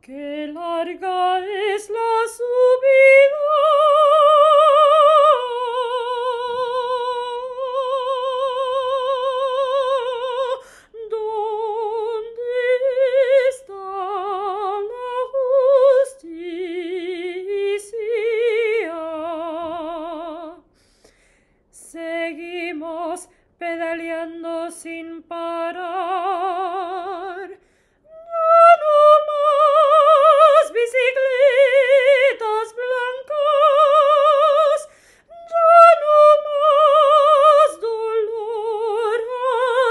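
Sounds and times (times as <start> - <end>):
woman singing operatic style: 0.0 - 20.7, 21.7 - 39.9.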